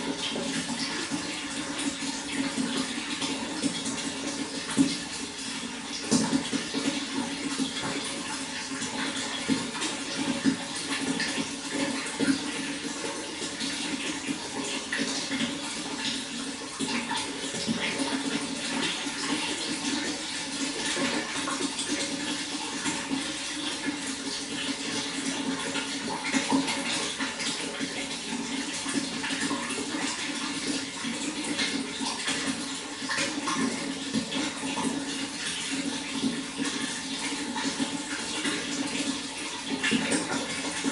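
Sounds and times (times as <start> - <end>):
running water splashing: 0.0 - 40.9.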